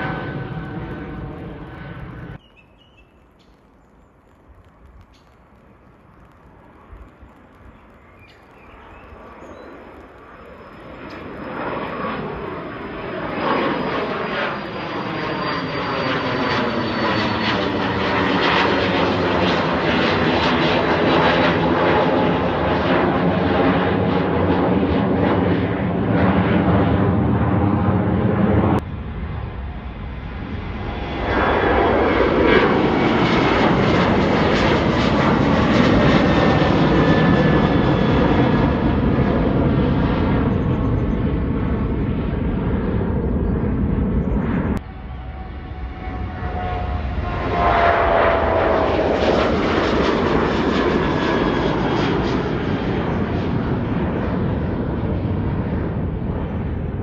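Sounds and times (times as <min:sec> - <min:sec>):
airliner engines at takeoff: 0:00.0 - 0:57.0.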